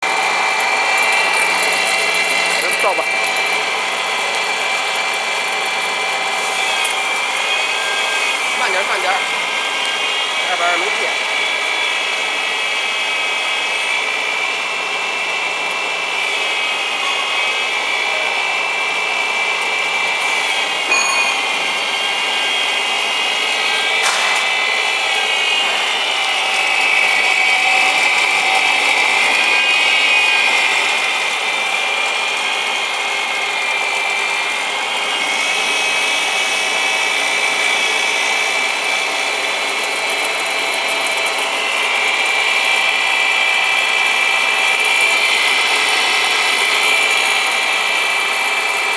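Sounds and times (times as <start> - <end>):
mill motor whining and grinding: 0.0 - 48.9.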